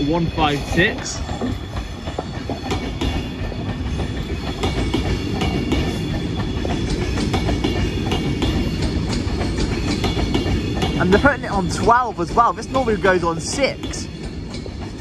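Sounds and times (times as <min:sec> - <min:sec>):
train rumble: 0:00.0 - 0:15.0
wheels clicking over rail joints: 0:00.5 - 0:15.0.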